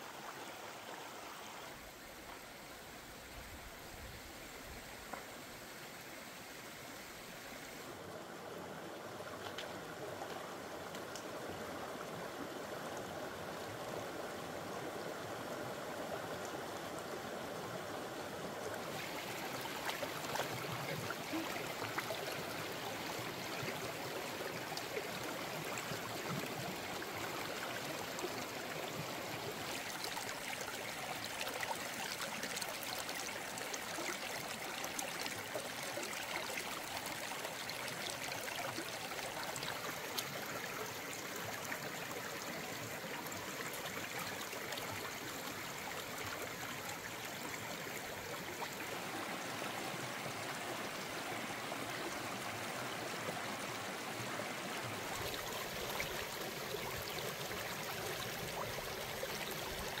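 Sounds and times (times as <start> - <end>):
stream flowing: 0.0 - 60.0.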